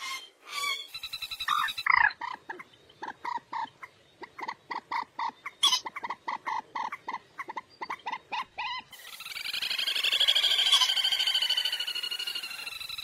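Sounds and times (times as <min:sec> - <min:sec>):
moorhen clucking notes: 0:00.0 - 0:13.0
moorhen harsh calls: 0:00.0 - 0:13.0.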